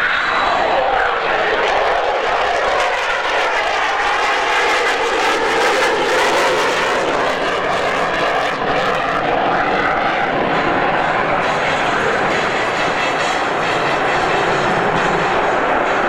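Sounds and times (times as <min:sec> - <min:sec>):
loud jet noise: 0:00.0 - 0:16.0.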